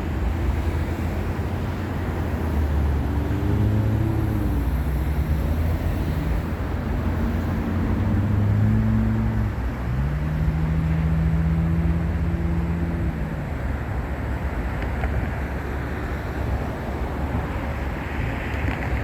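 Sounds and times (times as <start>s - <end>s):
rumble of road noise: 0.0s - 19.0s
vehicle engine humming: 0.0s - 19.0s.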